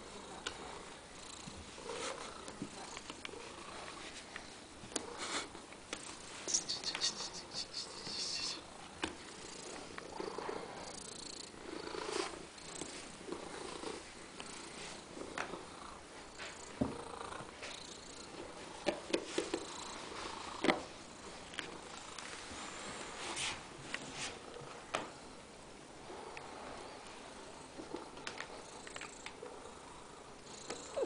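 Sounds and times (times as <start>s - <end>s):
cat purring: 0.0s - 22.9s, 26.0s - 31.0s.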